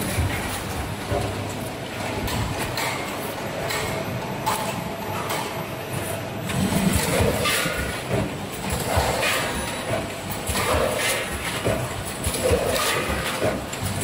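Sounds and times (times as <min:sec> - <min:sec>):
packing machine clattering: 0:00.0 - 0:05.6, 0:06.4 - 0:14.0.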